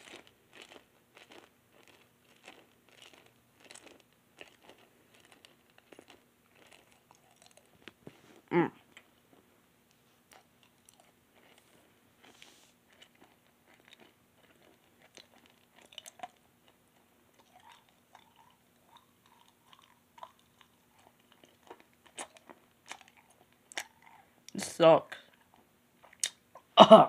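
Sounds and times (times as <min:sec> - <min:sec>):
mouth chewing with wet smacks: 0:00.0 - 0:08.1, 0:10.3 - 0:24.6, 0:25.2 - 0:26.7.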